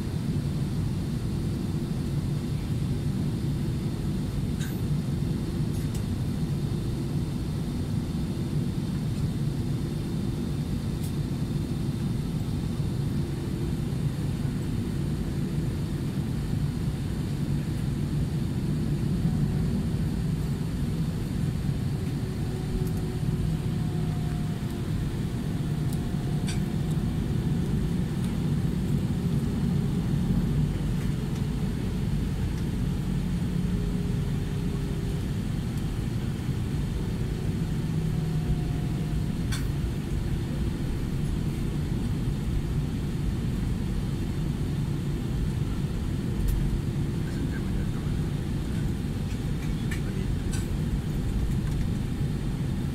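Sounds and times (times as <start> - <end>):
airliner cabin engine rumble: 0.0 - 52.9
faint hum tones: 0.0 - 52.9.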